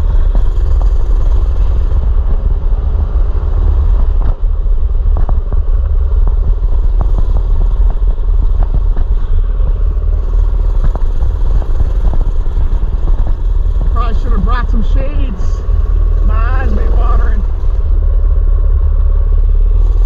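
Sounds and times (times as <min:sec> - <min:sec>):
mini bike engine rumbling: 0:00.0 - 0:20.0.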